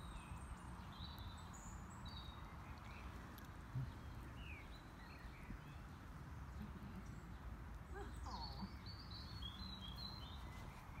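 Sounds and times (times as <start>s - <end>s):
distant birds chirping: 0.0s - 11.0s.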